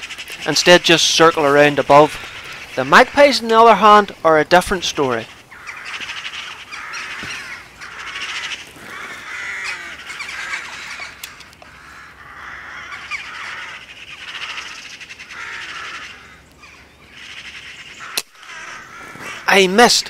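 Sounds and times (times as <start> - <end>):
magpies chattering: 0.0 - 20.0.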